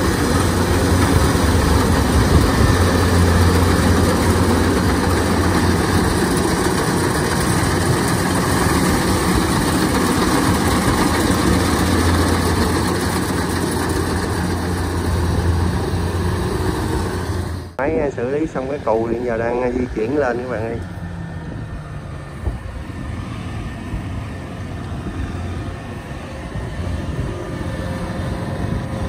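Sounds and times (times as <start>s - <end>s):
diesel engine low hum: 0.0s - 29.0s.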